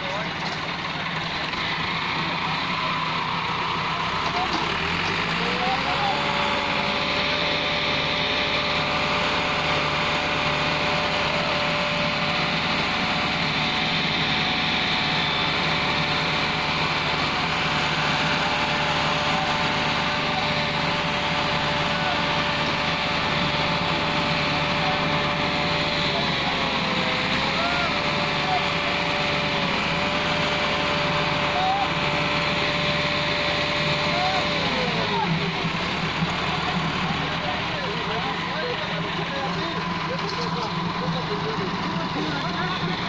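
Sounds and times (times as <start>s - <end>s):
tractor diesel engine straining: 0.0s - 43.0s.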